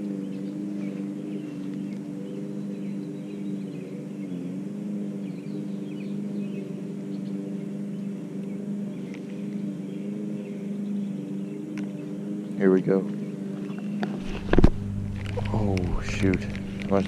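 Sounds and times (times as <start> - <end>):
faint bird chirps: 0.0 - 17.0
motor humming: 0.0 - 17.0.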